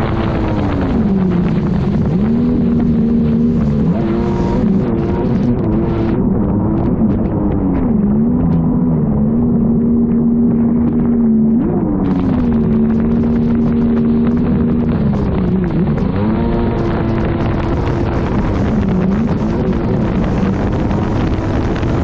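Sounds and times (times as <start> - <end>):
jet ski engine running: 0.0 - 22.0
wind buffeting microphone: 0.0 - 22.0.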